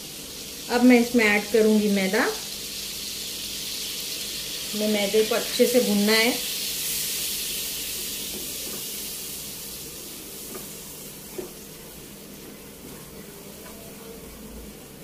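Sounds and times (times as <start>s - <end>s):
flour sizzling in butter: 0.0s - 13.7s.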